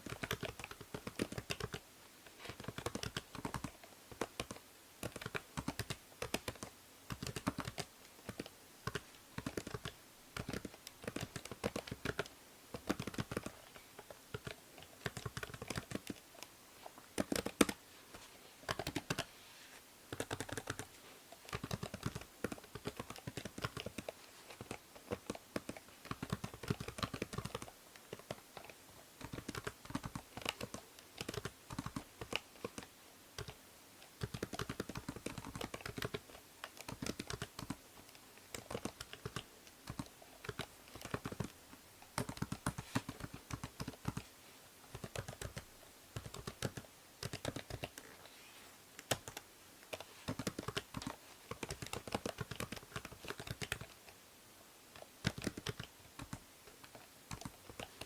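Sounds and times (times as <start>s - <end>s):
computer keyboard typing: 0.0s - 1.8s, 2.5s - 16.5s, 17.2s - 17.8s, 18.6s - 19.3s, 20.1s - 20.9s, 21.5s - 33.6s, 34.2s - 41.6s, 42.2s - 44.3s, 44.9s - 48.1s, 49.0s - 54.2s, 55.0s - 58.0s.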